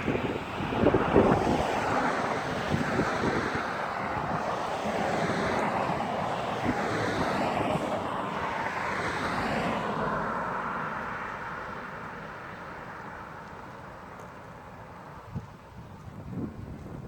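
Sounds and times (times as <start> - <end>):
vehicle passing: 0.0 - 14.1.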